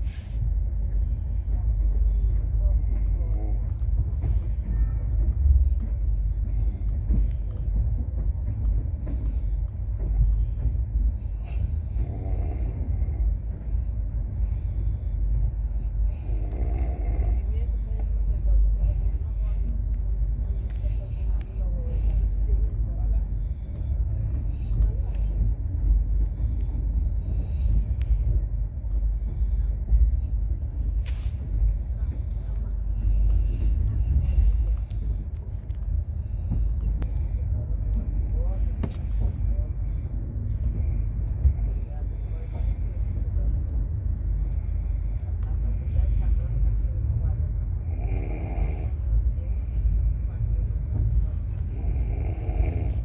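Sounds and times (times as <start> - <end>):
train rumble inside coach: 0.0 - 53.0.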